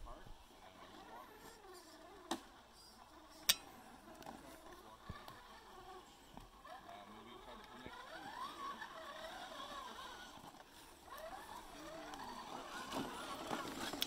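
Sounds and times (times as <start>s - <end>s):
electric motors whining: 0.4s - 14.0s.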